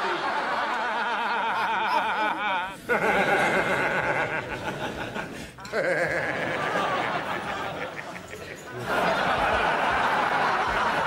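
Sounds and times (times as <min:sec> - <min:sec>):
man laughing heartily: 0:00.0 - 0:11.0.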